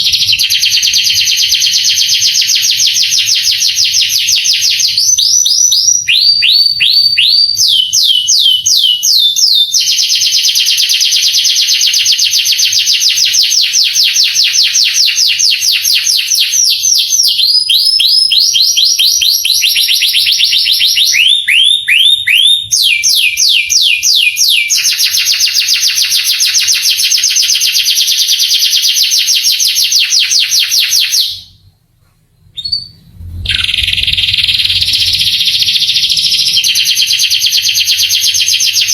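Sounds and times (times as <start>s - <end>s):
canary singing trills: 0.0s - 31.5s, 32.6s - 38.9s.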